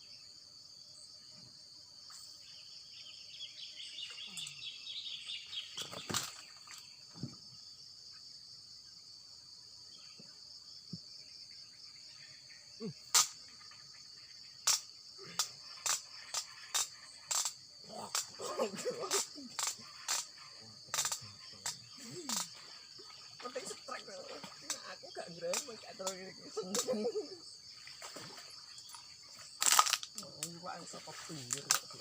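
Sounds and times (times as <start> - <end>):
insects pulsing chorus: 0.0 - 32.0.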